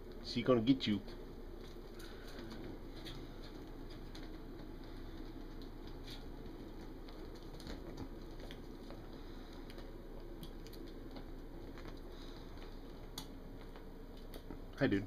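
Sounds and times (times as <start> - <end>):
hooves tapping on concrete: 1.0 - 14.6.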